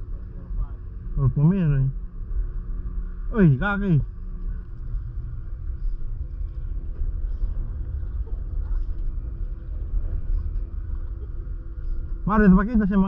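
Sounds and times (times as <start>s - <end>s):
boat engine rumbling: 0.0s - 13.0s
faint steady hum: 0.0s - 13.0s.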